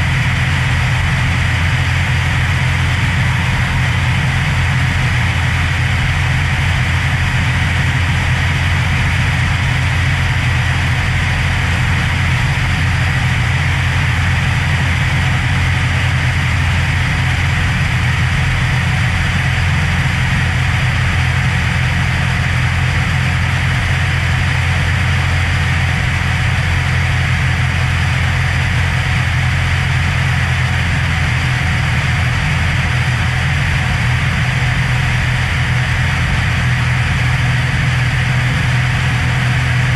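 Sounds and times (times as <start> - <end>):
aircraft engine droning: 0.0 - 39.9.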